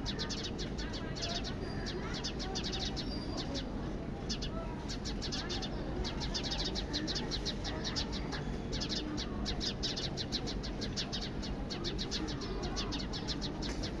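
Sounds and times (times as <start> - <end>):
sparrows chirping: 0.0 - 14.0.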